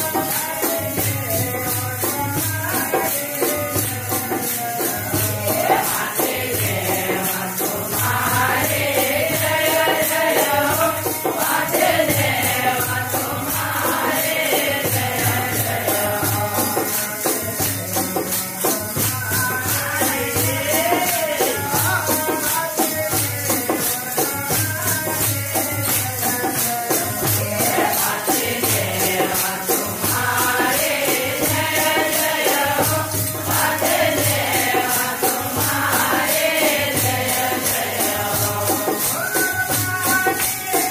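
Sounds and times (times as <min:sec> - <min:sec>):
men singing devotional song: 0:00.0 - 0:40.9
small hand cymbals jingling: 0:00.0 - 0:40.9.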